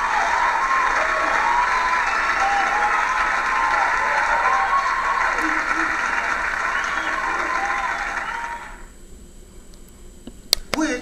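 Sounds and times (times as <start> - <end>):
audience applause and cheering: 0.0 - 8.9.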